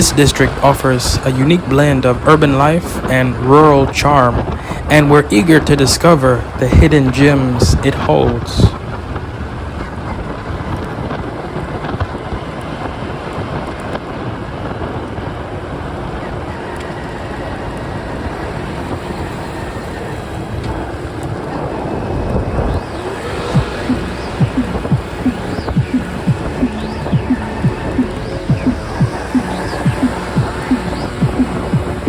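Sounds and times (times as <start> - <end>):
traffic: 0.0 - 32.0
wind and road noise: 0.0 - 32.0.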